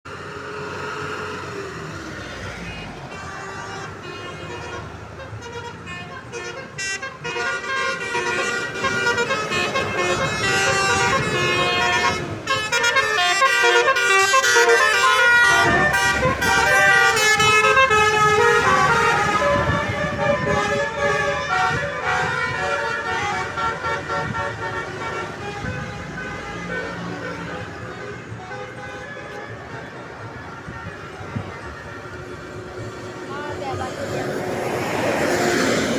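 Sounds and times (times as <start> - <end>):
bus air horn melody: 2.7 - 32.8.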